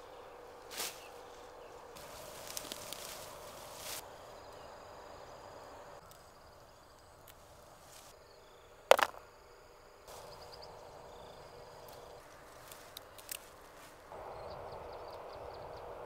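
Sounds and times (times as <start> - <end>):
insects calling: 0.0 - 16.0.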